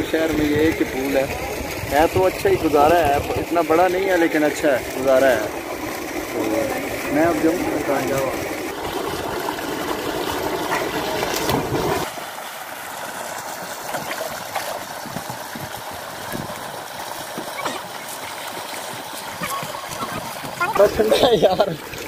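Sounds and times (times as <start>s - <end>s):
swimmers splashing: 0.0s - 12.1s, 13.1s - 22.0s
pipe outlet gushing into pool: 0.0s - 22.0s.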